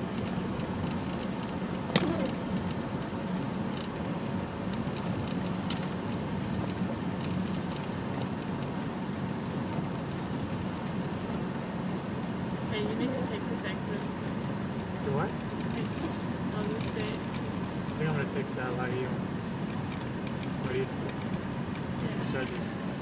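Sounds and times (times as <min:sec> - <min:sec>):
car engine and tyres droning: 0:00.0 - 0:23.0.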